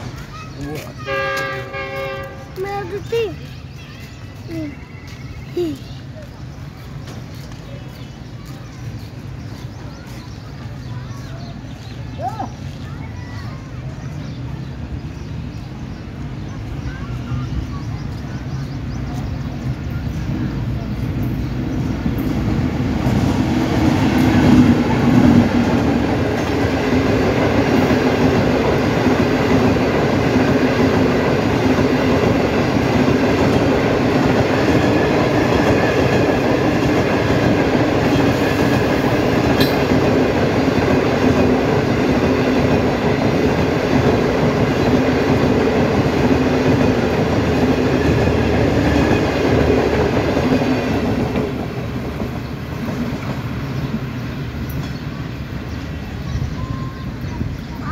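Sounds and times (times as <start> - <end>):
train wheels rumbling on track: 0.0 - 57.9.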